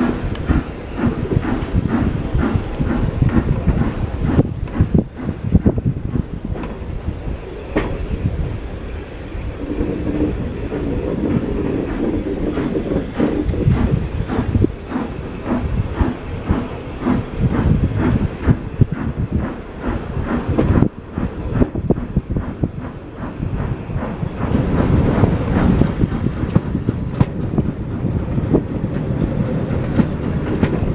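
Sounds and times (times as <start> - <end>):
train low hum: 0.0 - 30.9
train wheels knocking on rails: 0.0 - 30.9.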